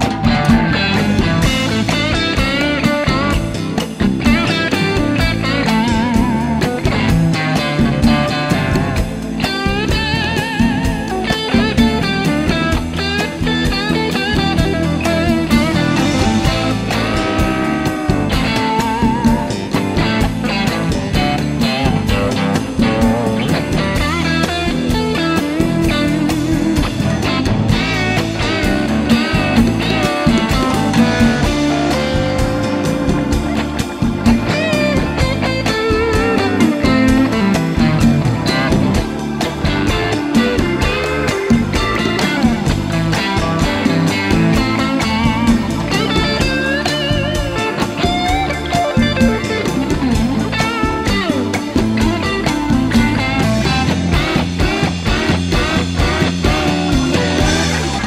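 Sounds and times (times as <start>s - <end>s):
guitar-led rock music: 0.0s - 58.0s.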